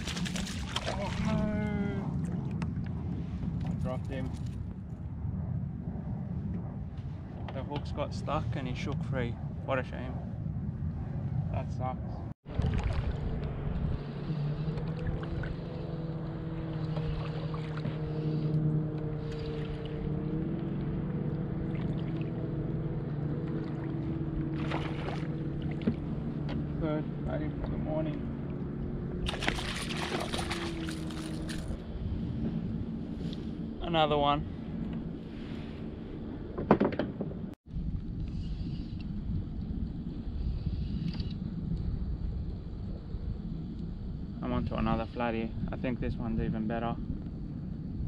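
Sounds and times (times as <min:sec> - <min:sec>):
low motor hum: 0:00.0 - 0:48.0
wind buffeting microphone: 0:00.0 - 0:48.0.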